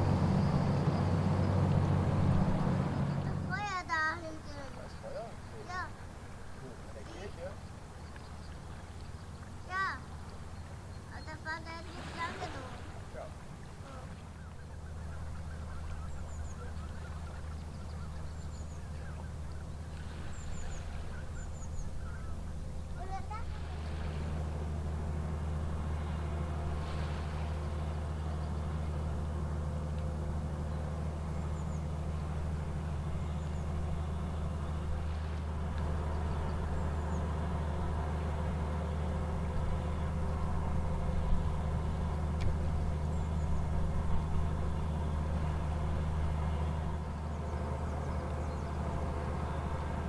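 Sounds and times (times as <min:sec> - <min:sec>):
ship diesel engine droning: 0:00.0 - 0:50.0.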